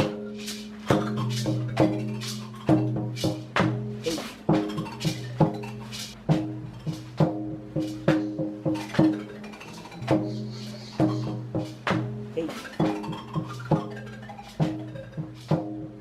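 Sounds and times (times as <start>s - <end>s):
sharp knocking percussion: 0.0s - 16.0s.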